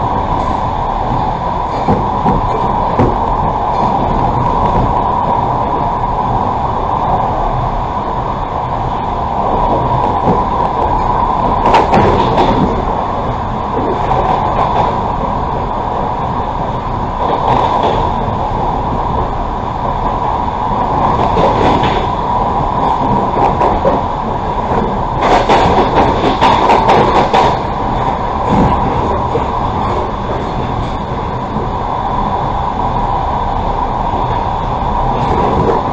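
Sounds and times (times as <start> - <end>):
train rattling clatter: 0.0 - 35.9
train wheels rumbling on rail: 0.0 - 35.9.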